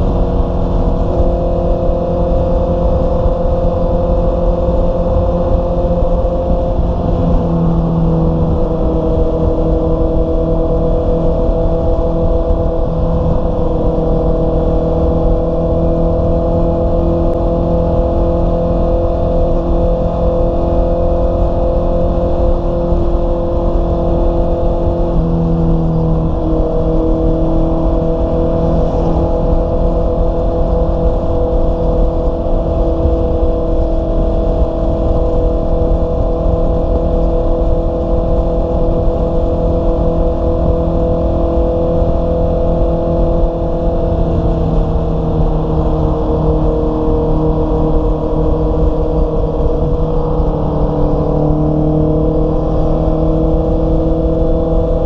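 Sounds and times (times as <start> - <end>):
motorcycle engine cruising: 0.0 - 55.0
wind rushing over microphone: 0.0 - 55.0.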